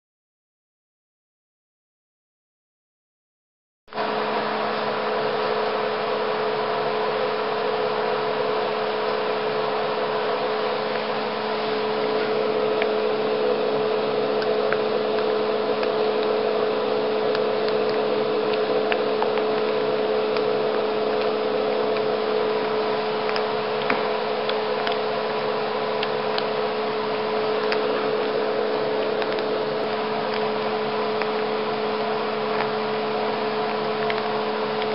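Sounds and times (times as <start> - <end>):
mixer motor hum and whine: 3.9 - 34.9.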